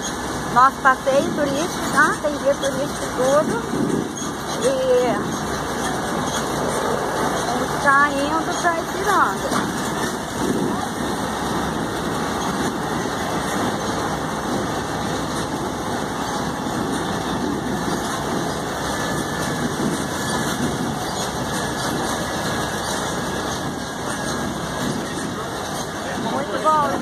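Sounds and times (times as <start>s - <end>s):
road train engine: 0.0s - 27.0s
tyres on cobblestones: 0.0s - 27.0s.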